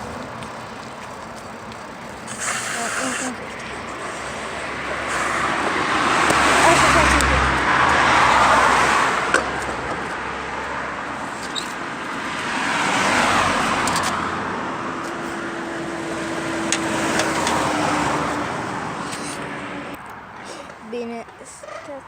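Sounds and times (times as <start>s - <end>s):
cars passing by: 0.0s - 22.0s.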